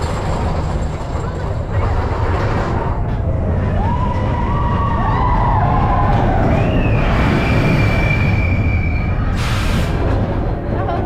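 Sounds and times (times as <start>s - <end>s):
roller coaster rumbling on track: 0.0s - 11.0s.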